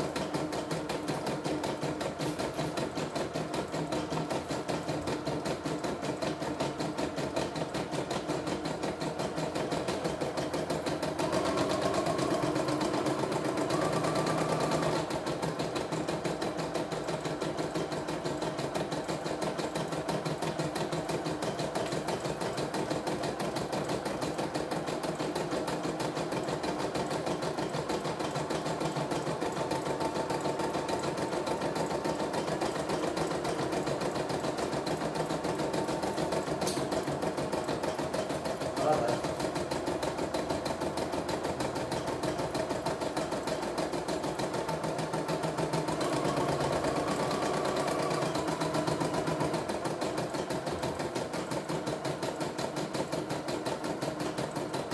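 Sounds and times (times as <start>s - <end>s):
embroidery machine stitching: 0.0s - 54.9s.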